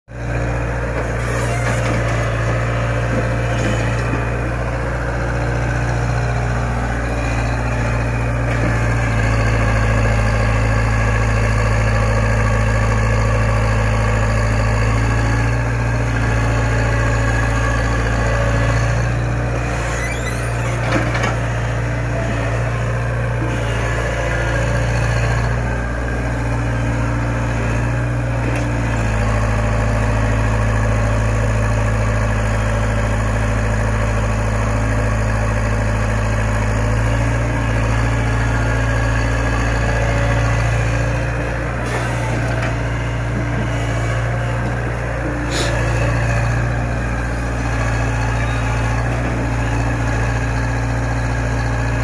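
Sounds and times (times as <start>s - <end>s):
excavator diesel engine running: 0.1s - 52.0s.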